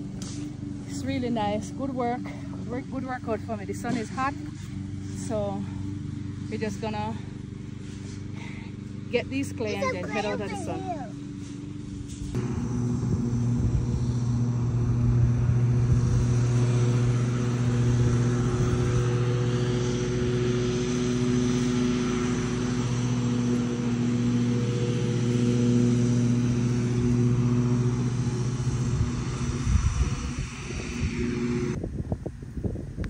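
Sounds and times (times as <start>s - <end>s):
motor humming with rushing noise: 0.0s - 33.0s.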